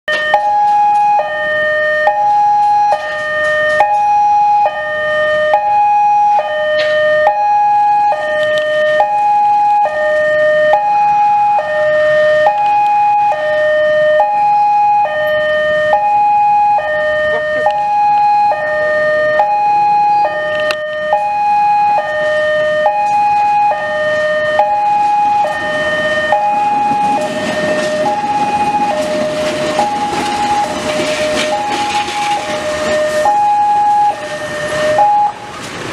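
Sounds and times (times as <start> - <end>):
two-tone electronic alarm: 0.1 - 35.5
diesel locomotive rumble: 0.1 - 35.9.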